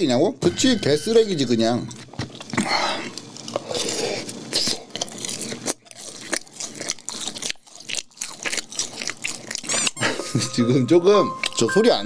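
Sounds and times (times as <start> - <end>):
crunching bites and chewing: 0.8 - 10.4, 11.3 - 12.0.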